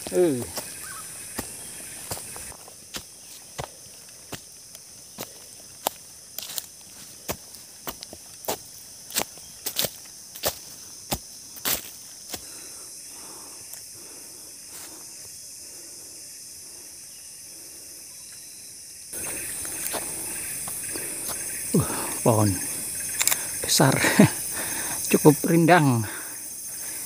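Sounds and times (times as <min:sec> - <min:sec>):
footsteps on earth trail: 0:00.0 - 0:13.9, 0:19.1 - 0:27.0
forest insects chorus: 0:00.0 - 0:27.0.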